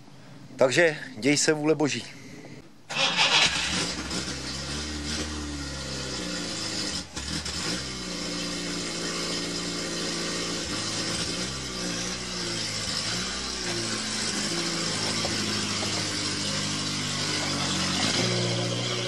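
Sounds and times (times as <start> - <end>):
car engine starting and running: 2.9 - 19.0.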